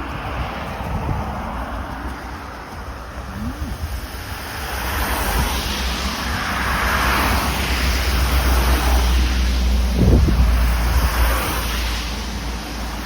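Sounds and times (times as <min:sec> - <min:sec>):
low traffic rumble: 0:00.0 - 0:13.0
vehicle approaching: 0:00.0 - 0:13.0.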